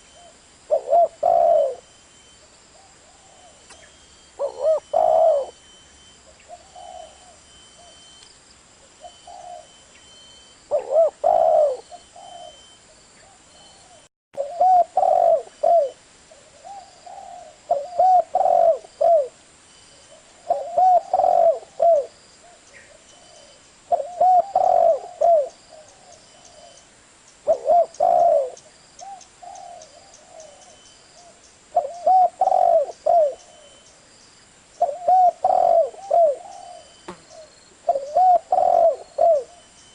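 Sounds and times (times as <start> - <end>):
dove cooing: 0.0 - 1.9, 2.7 - 5.6, 6.3 - 8.0, 9.0 - 9.8, 10.7 - 19.4, 20.1 - 26.8, 27.4 - 33.8, 34.8 - 39.8.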